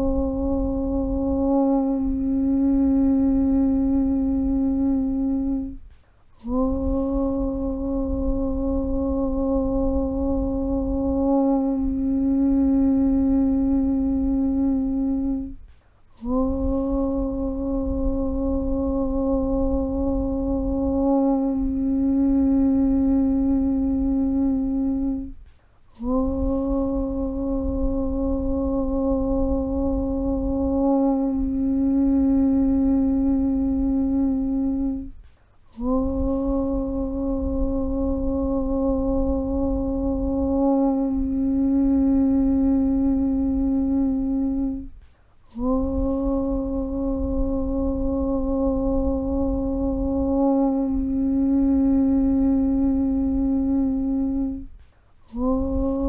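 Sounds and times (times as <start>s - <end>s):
low rumble: 0.0s - 54.8s
person chanting aum: 0.0s - 56.0s.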